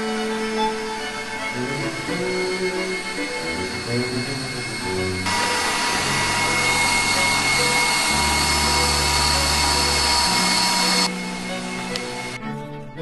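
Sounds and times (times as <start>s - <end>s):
mixer motor whirring: 0.0s - 12.4s.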